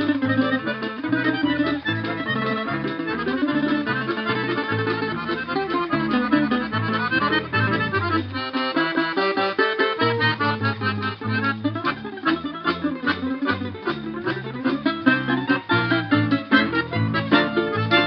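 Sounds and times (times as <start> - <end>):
accordion melody: 0.0 - 18.0
bass balalaika plucking: 0.0 - 18.0
plucked balalaikas: 0.0 - 18.0.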